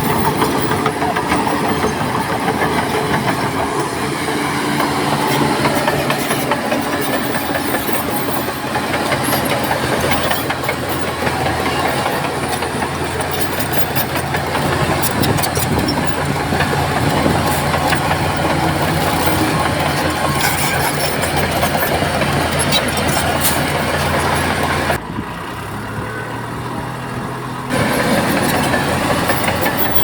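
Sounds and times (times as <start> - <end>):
steel tracks clanking: 0.0 - 25.0, 27.7 - 30.0
diesel engine running: 0.0 - 30.0.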